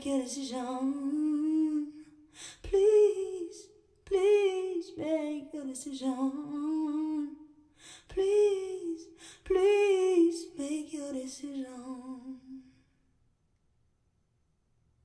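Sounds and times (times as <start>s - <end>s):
woman singing with vibrato: 0.0s - 12.7s.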